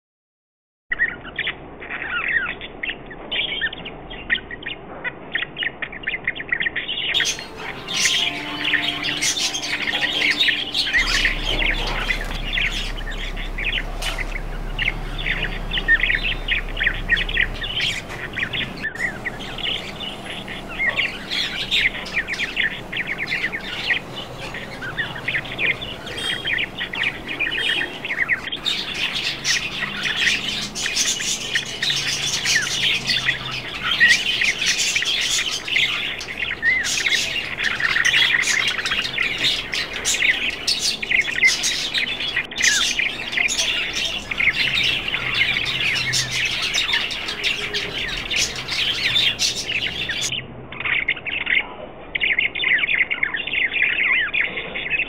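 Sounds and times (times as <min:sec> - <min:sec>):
budgerigars chattering: 0:01.0 - 0:55.0.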